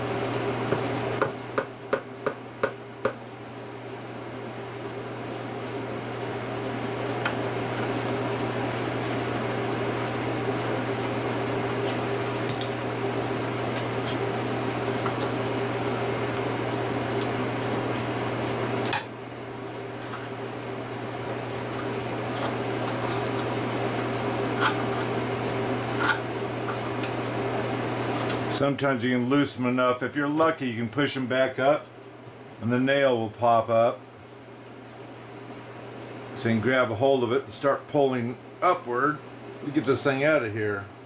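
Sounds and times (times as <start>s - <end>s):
machine hum: 0.0s - 41.0s.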